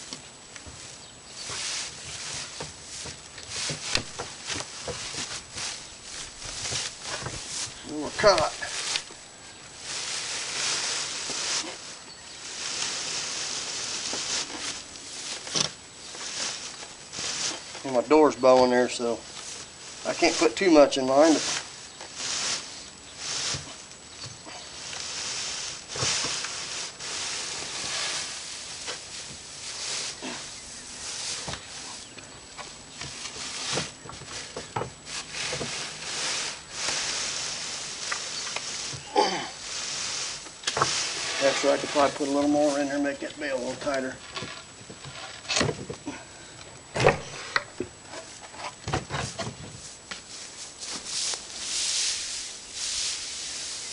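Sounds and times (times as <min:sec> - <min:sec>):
hay rustling: 0:00.0 - 0:45.4, 0:49.2 - 0:53.9.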